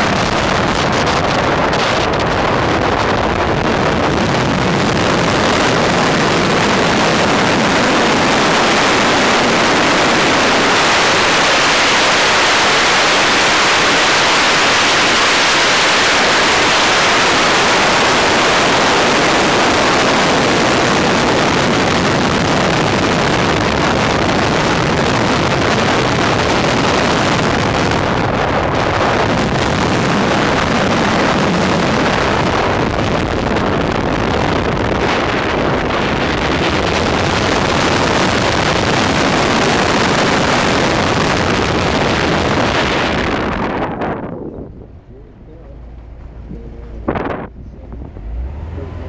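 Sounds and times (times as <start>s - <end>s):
car engine: 0.0s - 49.0s
wind rush on microphone: 0.0s - 49.0s.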